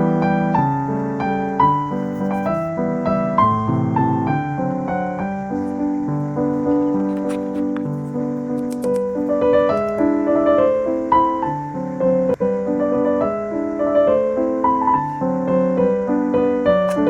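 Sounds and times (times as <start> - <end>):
gentle piano tune: 0.0 - 17.0.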